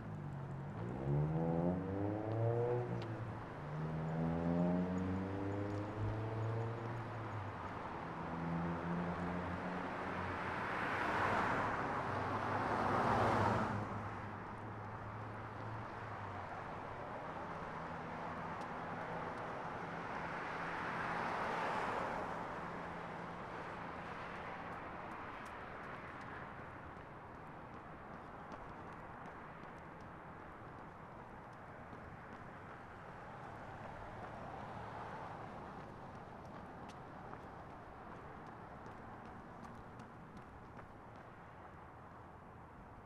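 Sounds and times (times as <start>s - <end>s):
cars passing on street: 0.0s - 43.0s.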